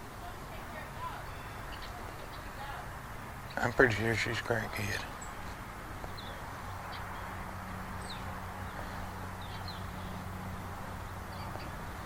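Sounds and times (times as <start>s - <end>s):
small birds chirping: 0.5s - 12.0s.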